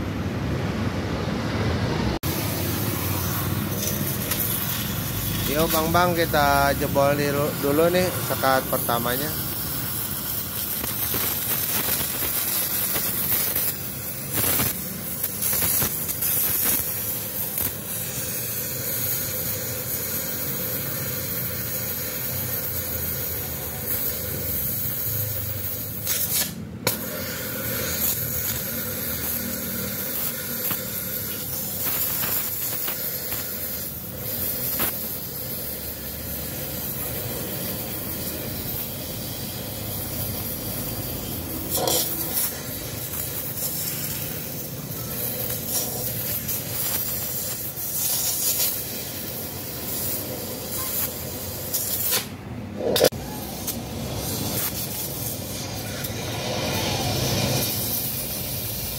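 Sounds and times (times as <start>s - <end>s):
cutting torch hissing: 2.1s - 58.9s
torch pops: 2.2s - 58.9s.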